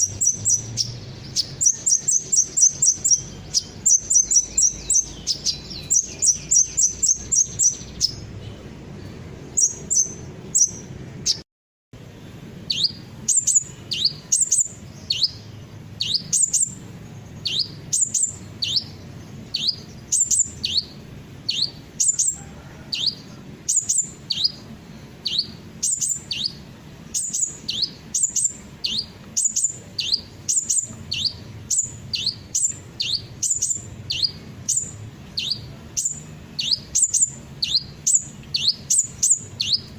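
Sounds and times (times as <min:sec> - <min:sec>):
sunbird chirping: 0:00.0 - 0:11.4, 0:12.0 - 0:39.9.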